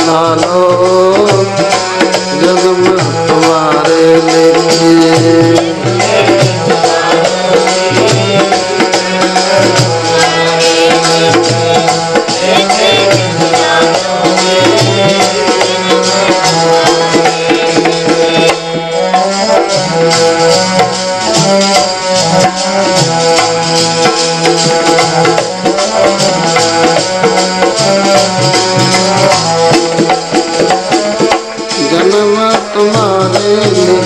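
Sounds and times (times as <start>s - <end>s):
tabla playing rhythm: 0.0s - 34.0s
held melody notes: 4.8s - 34.0s.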